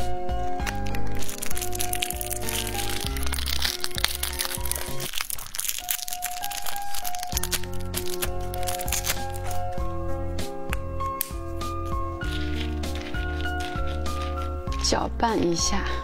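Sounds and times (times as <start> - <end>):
toppings crackling and crinkling: 0.0 - 10.0, 10.6 - 15.7
background music: 0.0 - 16.0.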